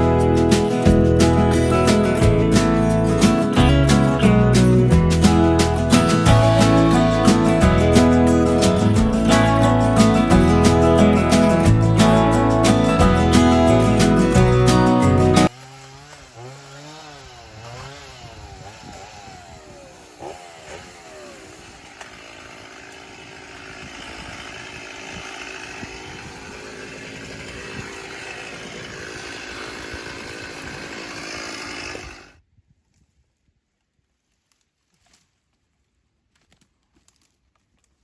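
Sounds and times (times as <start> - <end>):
small gas engine revving: 0.0 - 32.4.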